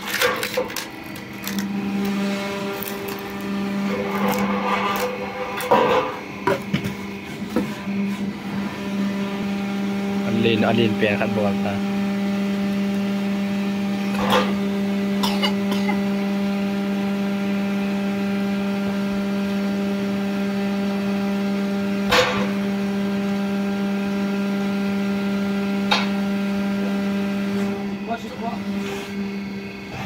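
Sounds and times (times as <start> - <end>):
hydraulic power unit hum: 0.0 - 30.0.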